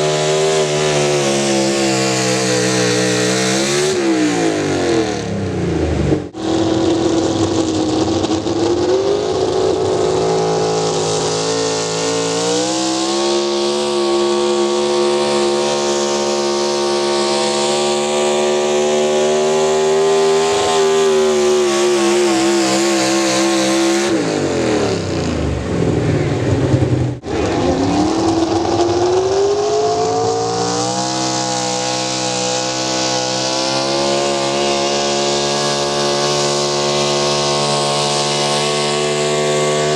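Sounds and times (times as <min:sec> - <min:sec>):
vehicle engine at high revs: 0:00.0 - 0:39.9.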